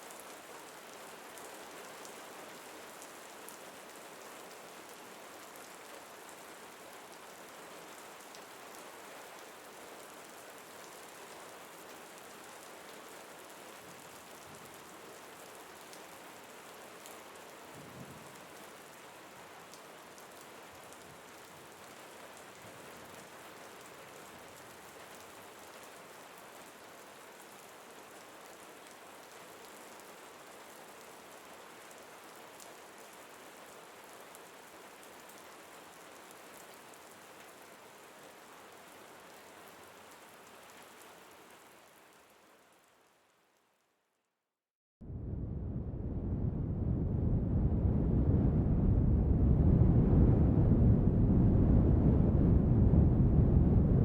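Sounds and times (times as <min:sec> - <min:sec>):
steady rain: 0:00.0 - 0:43.9, 0:45.0 - 0:54.0.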